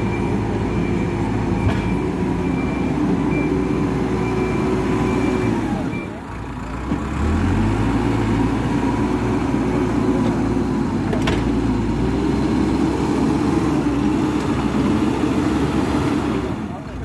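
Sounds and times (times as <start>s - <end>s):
diesel engine at high revs: 0.0s - 17.0s.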